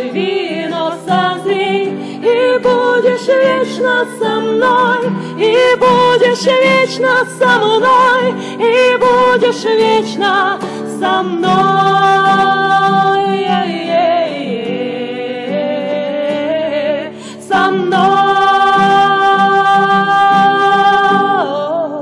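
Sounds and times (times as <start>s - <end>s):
strummed acoustic guitar: 0.0s - 21.8s
women singing in harmony: 0.0s - 22.0s.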